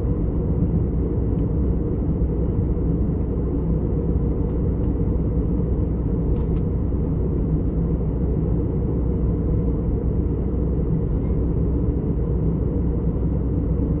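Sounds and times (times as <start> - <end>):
jet cabin rumble: 0.0 - 14.0.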